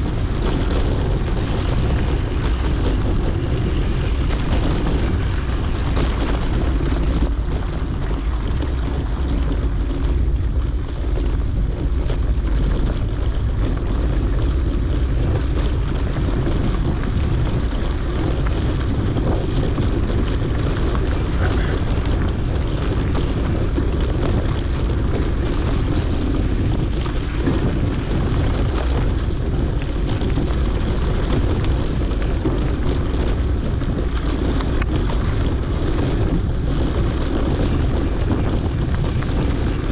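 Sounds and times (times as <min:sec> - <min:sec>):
bike knocks and rattles: 0:00.0 - 0:39.9
wind rushing over microphone: 0:00.0 - 0:39.9.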